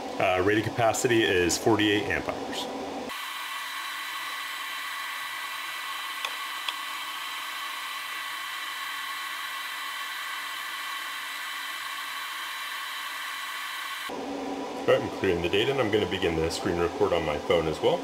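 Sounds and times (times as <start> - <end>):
cooling fans whirring with whine: 0.0 - 18.0.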